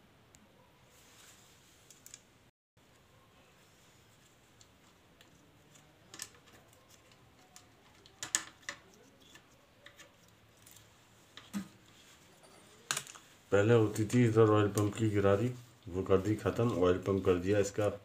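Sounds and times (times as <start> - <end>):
faint room noise: 0.0 - 18.0.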